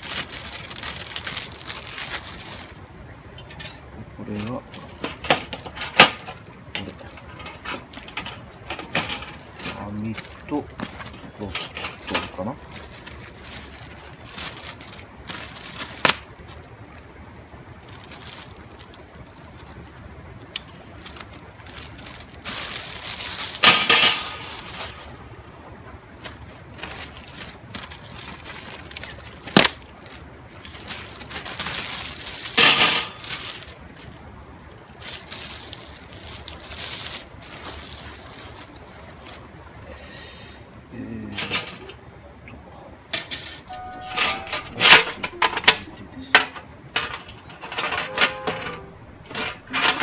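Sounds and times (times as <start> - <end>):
rustling and scraping: 0.0 - 17.0, 17.8 - 25.3, 26.1 - 39.6, 41.3 - 42.2, 43.1 - 50.0.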